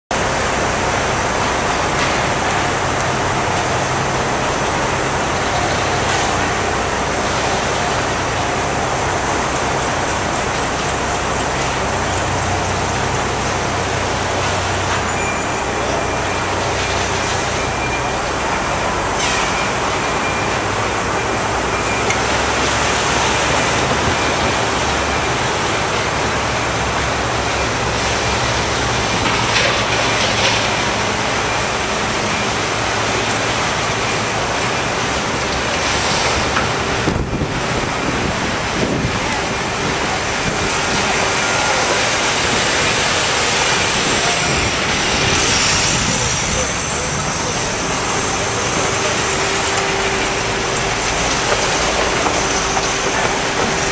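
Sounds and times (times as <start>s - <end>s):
city traffic: 0.1s - 53.9s
construction work: 0.1s - 53.9s.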